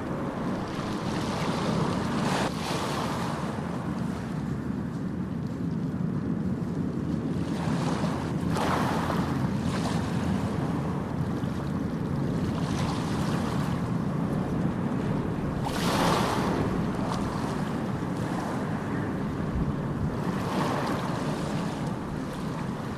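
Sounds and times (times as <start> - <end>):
low rumble of waves: 0.0 - 22.9.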